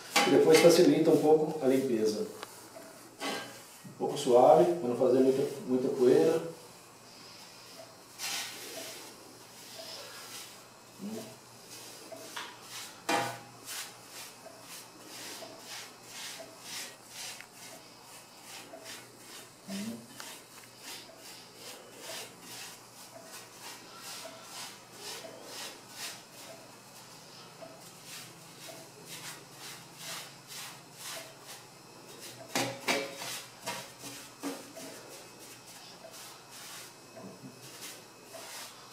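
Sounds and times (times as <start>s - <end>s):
paintbrush sweeping metal plate: 0.1s - 6.5s, 7.2s - 38.9s.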